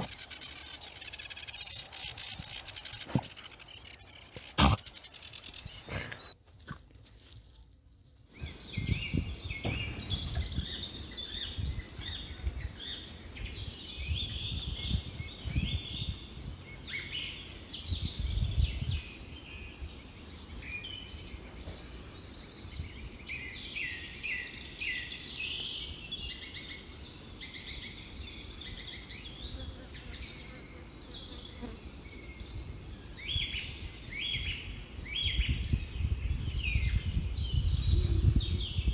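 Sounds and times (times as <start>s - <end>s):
small birds chirping: 0.0s - 6.4s, 8.4s - 38.9s.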